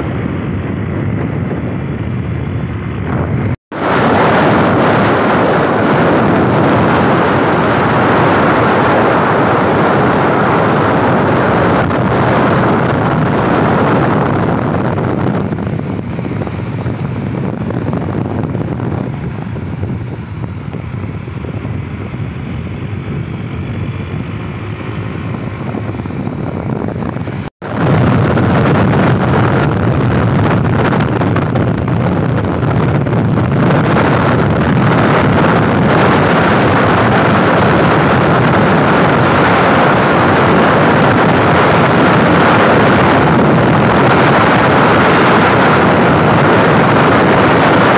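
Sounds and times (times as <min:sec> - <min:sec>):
road and engine noise: 0:00.0 - 0:47.9
wind rushing on microphone: 0:00.0 - 0:47.9.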